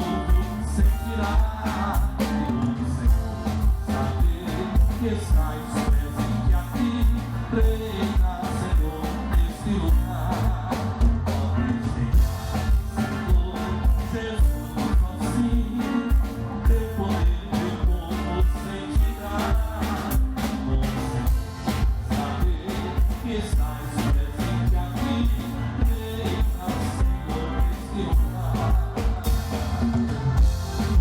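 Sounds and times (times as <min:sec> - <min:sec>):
live band playing praise song: 0:00.0 - 0:31.0
person singing: 0:00.0 - 0:31.0.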